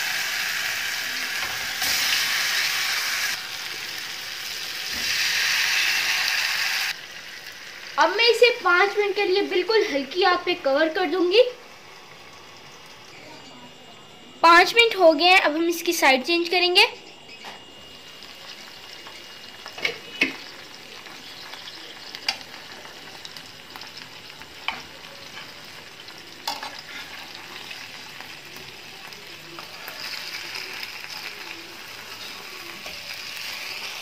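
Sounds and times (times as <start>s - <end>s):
chicken sizzling in a pan: 0.0s - 13.0s, 17.8s - 34.0s.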